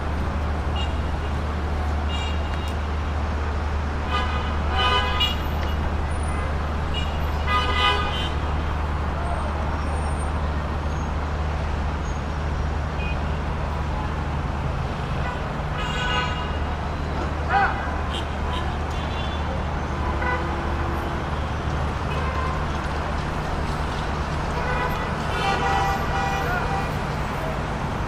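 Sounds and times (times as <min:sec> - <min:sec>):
engine rumble and road noise: 0:00.0 - 0:28.0.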